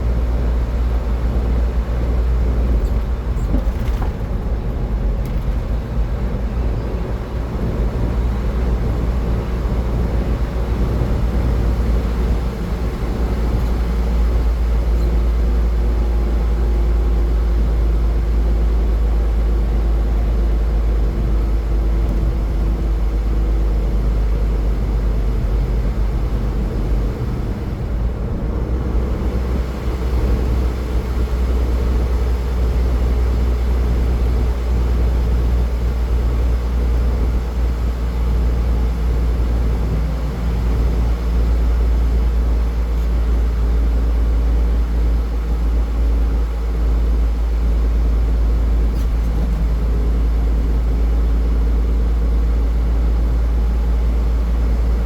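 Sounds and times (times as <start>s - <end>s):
car engine: 0.0s - 55.0s
road and tyre noise: 0.0s - 55.0s.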